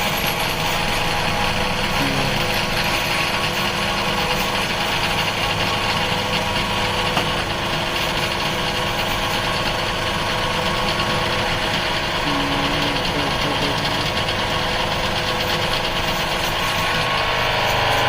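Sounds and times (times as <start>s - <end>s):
hydraulic power unit droning: 0.0s - 18.0s.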